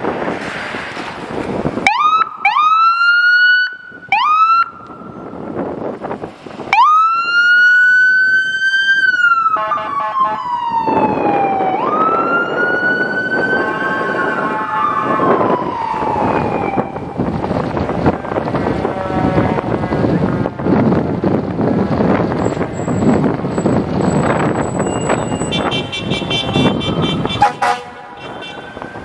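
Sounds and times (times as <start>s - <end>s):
rescue truck passing: 0.0s - 29.0s
fire truck siren wailing: 1.7s - 29.0s.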